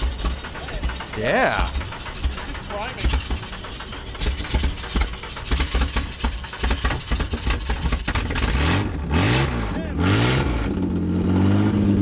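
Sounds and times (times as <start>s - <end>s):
car engine cranking: 0.0s - 12.0s.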